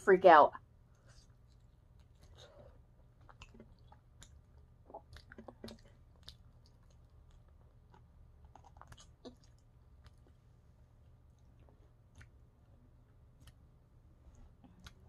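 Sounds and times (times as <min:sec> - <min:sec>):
faint chewing: 0:00.8 - 0:15.0.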